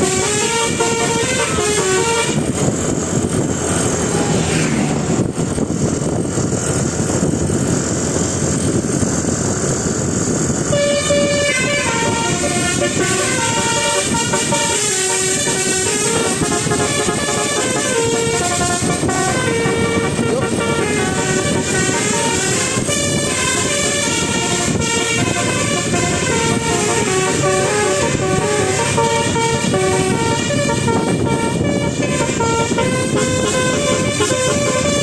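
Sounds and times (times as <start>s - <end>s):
bus horn playing a tune: 0.0s - 5.8s, 10.4s - 35.0s.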